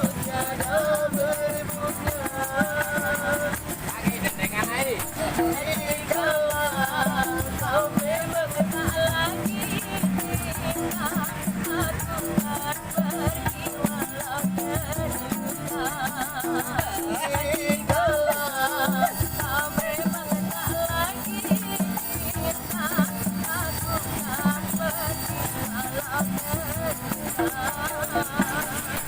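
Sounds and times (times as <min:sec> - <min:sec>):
person singing with vibrato: 0:00.0 - 0:29.0
shaker rattle percussion: 0:00.0 - 0:29.0.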